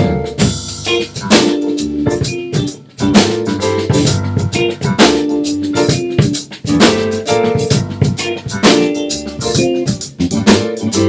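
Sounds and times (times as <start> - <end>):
drum kit playing a groove: 0.0 - 11.0
guitar: 0.0 - 11.0
keyboard: 0.0 - 11.0.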